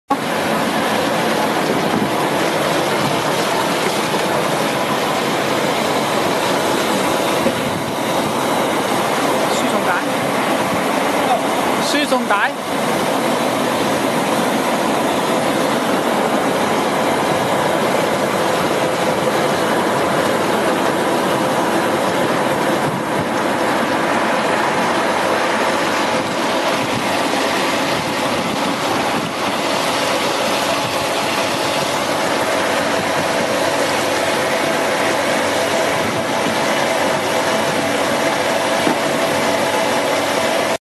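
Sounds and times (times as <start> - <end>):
steady mechanical hum: 0.1 - 40.8
water churning and bubbling: 0.1 - 40.8.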